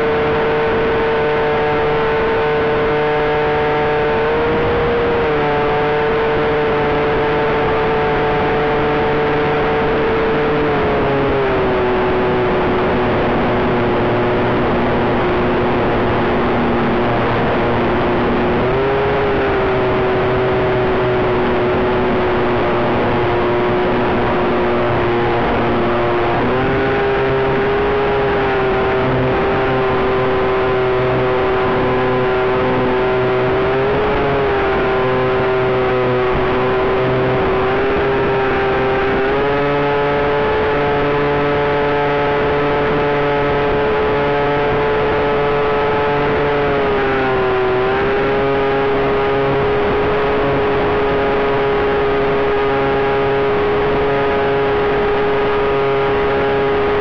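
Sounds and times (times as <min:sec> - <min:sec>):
model plane motor whine: 0:00.0 - 0:57.0.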